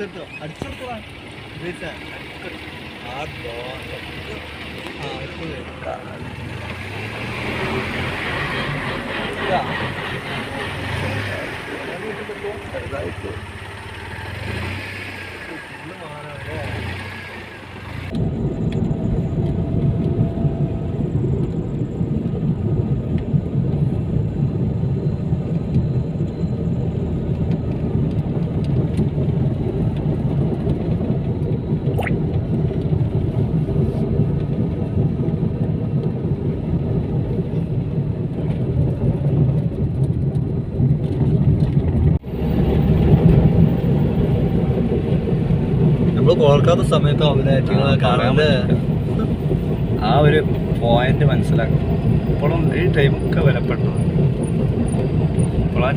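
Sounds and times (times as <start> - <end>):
car engine and tyre drone: 0.0 - 55.9.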